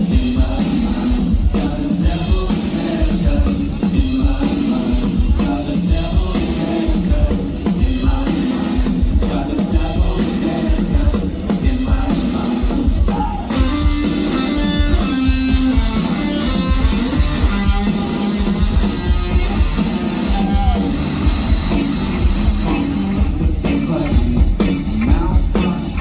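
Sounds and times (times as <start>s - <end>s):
electric guitar: 0.0s - 26.0s
rock band playing live: 0.0s - 26.0s.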